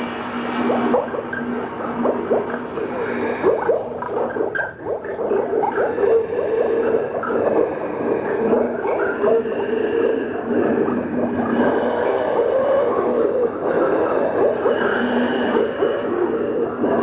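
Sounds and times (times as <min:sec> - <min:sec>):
gurgling bubbling blips: 0:00.0 - 0:17.0
steady hum: 0:00.0 - 0:17.0.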